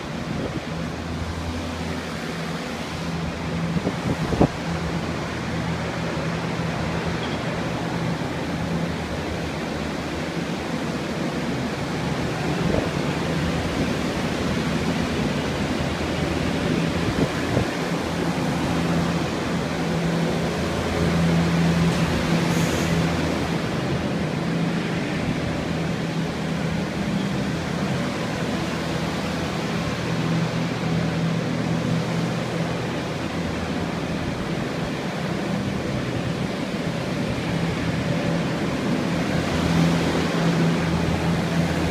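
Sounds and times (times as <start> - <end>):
air movers rushing and humming: 0.0 - 41.9.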